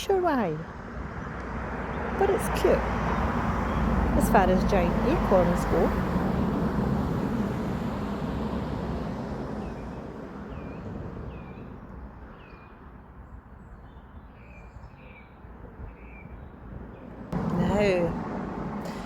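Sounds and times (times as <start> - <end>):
road traffic rumble: 0.0 - 14.1, 15.4 - 19.0.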